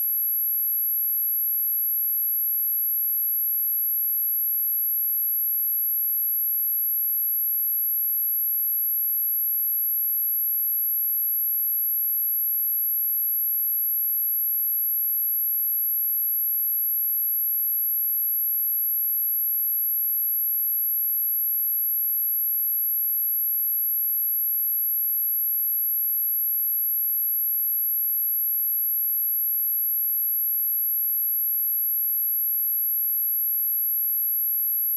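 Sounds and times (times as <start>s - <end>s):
very high sine-wave test tone: 0.0s - 34.9s.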